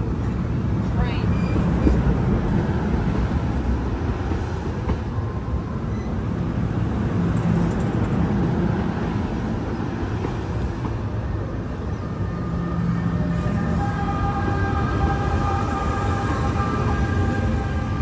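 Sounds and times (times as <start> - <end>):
train rumbling by: 0.0 - 18.0.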